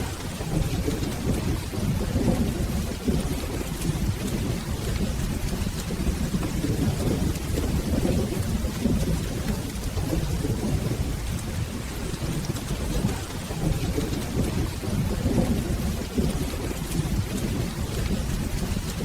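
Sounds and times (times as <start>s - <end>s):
rolling thunder: 0.0s - 19.0s
steady rain: 0.0s - 19.0s.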